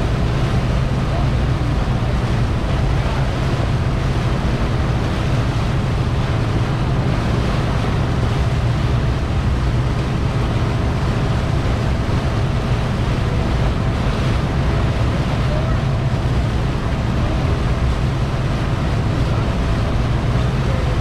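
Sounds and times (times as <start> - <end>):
boat wake churning: 0.0 - 21.0
motorboat engine droning: 0.0 - 21.0
wind noise on microphone: 0.0 - 21.0.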